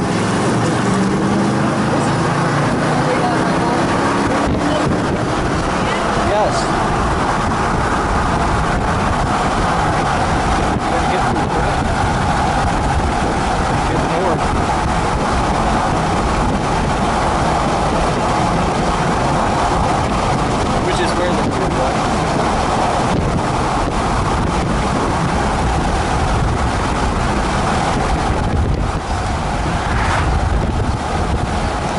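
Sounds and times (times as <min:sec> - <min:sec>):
road and wind noise inside vehicle: 0:00.0 - 0:31.9.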